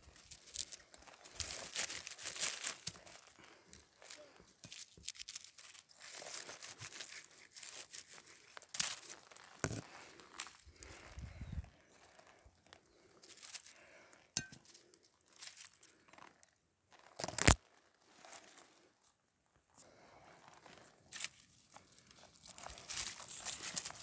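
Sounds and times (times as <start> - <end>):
rustling and crunching: 0.0 - 24.0.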